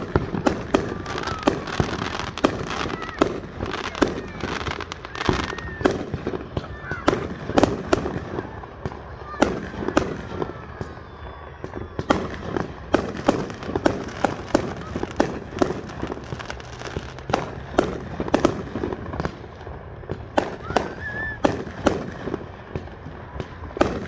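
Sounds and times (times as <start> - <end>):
fireworks booming and popping: 0.0 - 24.0.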